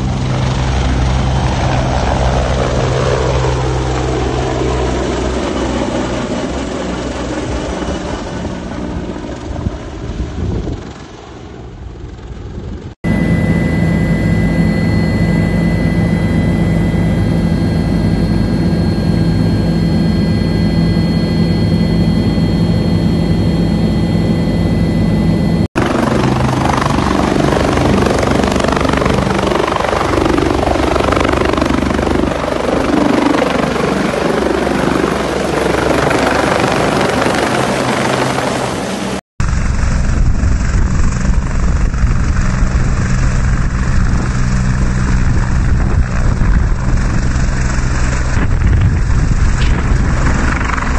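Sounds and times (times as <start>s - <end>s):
helicopter rotor noise: 0.0s - 50.9s
turbine whine: 0.0s - 50.9s.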